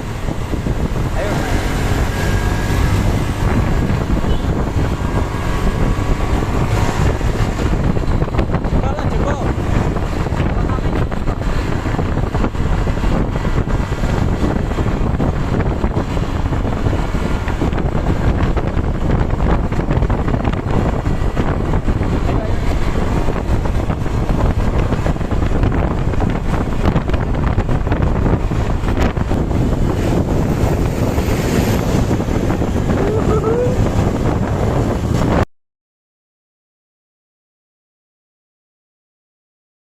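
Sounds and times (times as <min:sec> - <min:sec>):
road traffic rumble: 0:00.0 - 0:35.5
wind buffeting microphone: 0:00.0 - 0:35.5.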